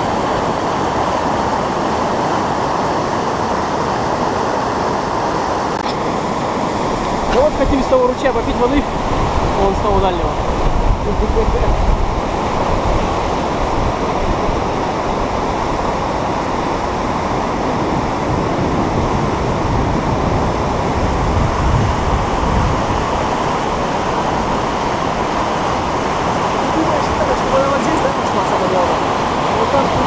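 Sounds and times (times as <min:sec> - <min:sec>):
whitewater rushing: 0:00.0 - 0:30.0.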